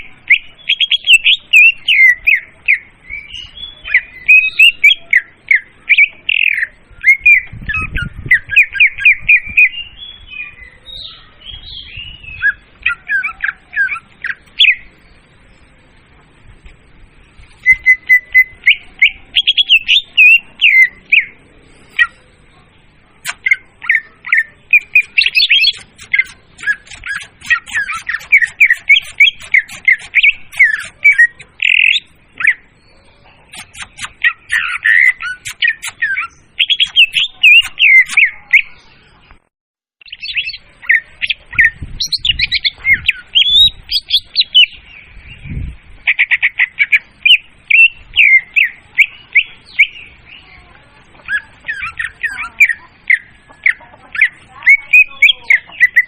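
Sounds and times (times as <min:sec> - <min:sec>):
bird chirps and warbles: 0:00.0 - 0:56.0.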